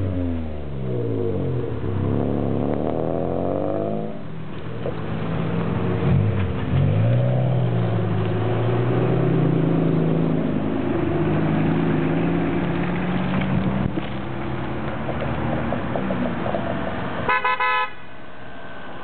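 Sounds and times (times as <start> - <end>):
cars accelerating past: 0.0 - 17.4.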